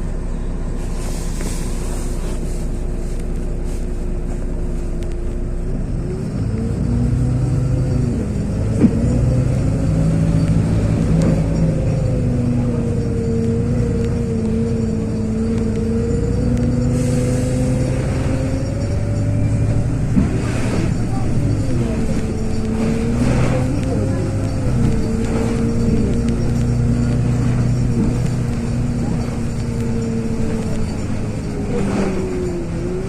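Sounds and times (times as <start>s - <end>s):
bus diesel engine running: 0.0s - 33.0s
rising whine of bus: 0.0s - 33.0s.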